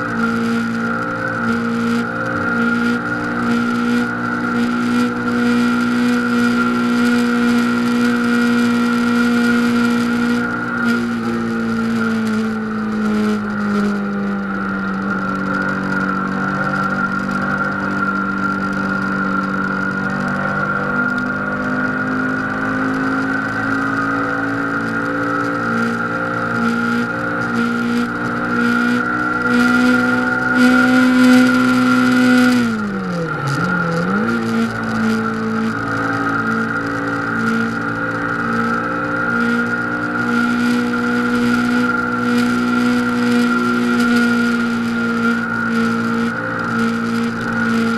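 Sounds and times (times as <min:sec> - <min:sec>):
high whine: 0:00.0 - 0:47.9
motorcycle engine at high revs: 0:00.0 - 0:47.9.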